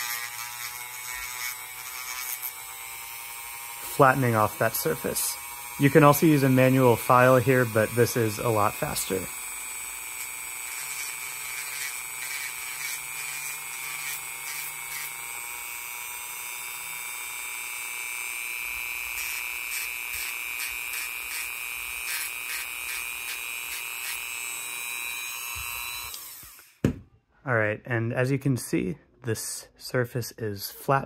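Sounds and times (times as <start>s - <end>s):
rotary tool whining: 0.0s - 26.8s.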